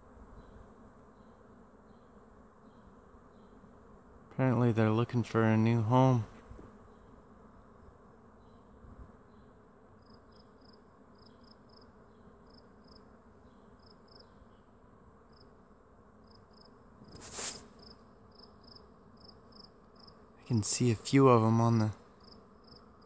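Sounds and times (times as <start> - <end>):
bees humming in flight: 0.0 - 23.0.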